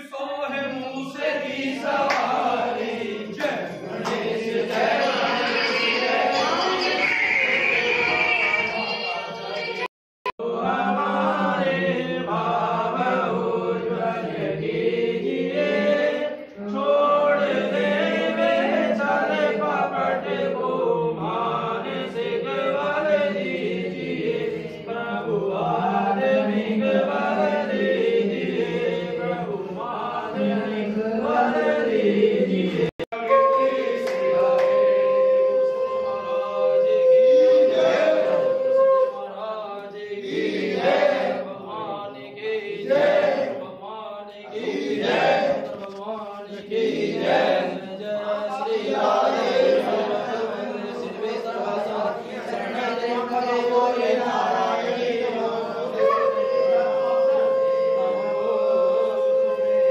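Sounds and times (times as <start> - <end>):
group of voices chanting: 0.6 - 59.9.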